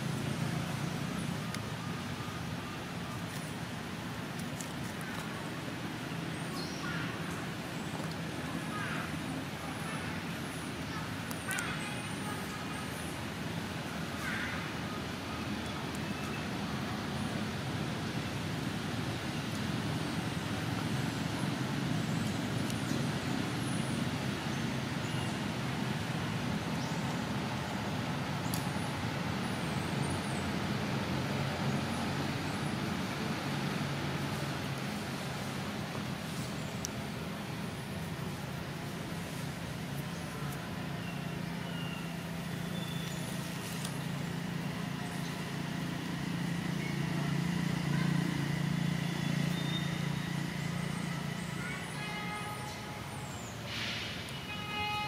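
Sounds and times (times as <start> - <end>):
low outdoor rumble: 0.0 - 54.5.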